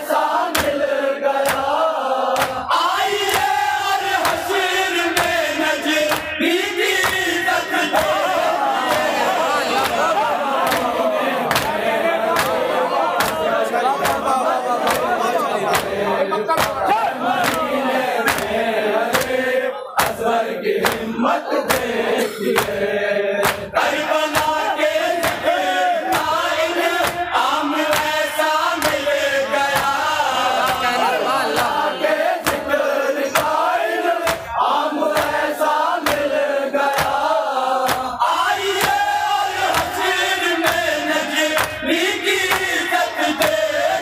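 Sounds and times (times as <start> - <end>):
men chanting in unison: 0.0 - 44.0
sharp rhythmic strikes: 0.5 - 0.8, 1.4 - 44.0.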